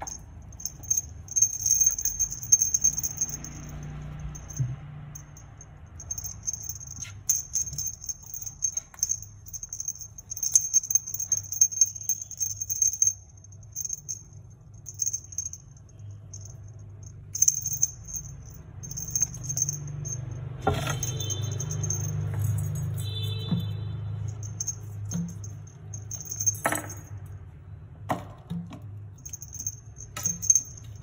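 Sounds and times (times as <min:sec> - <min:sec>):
small bell jingling: 0:00.0 - 0:27.4, 0:29.1 - 0:31.0.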